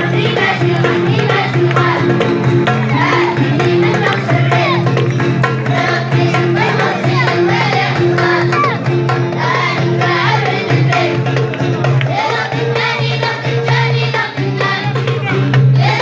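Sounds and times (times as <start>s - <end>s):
children singing: 0.0s - 16.0s
instrumental accompaniment: 0.0s - 16.0s.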